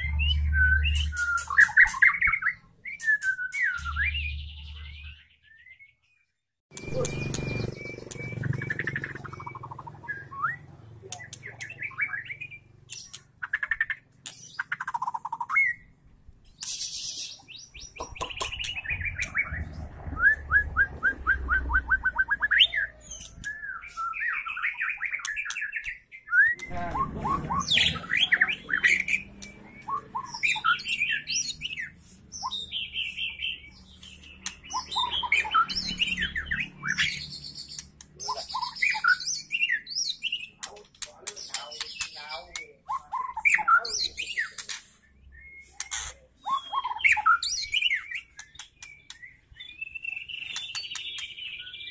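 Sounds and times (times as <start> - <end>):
bird singing whistles and trills: 0.0 - 15.9, 16.6 - 40.7, 41.3 - 51.9.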